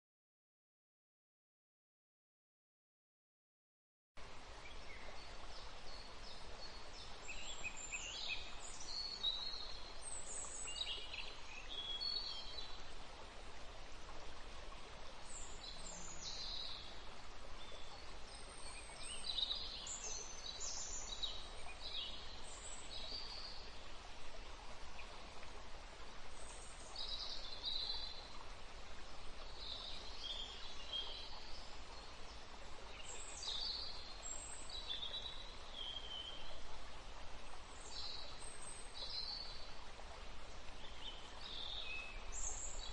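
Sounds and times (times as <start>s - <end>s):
steady background hiss: 4.2s - 42.9s.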